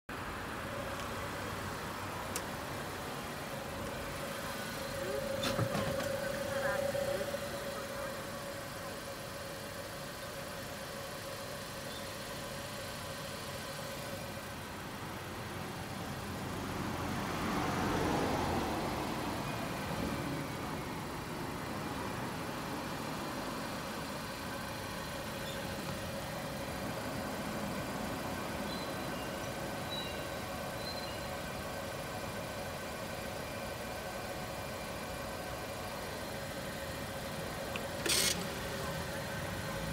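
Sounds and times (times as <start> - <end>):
car engine running: 0.1 - 39.9
traffic hum: 0.1 - 39.9.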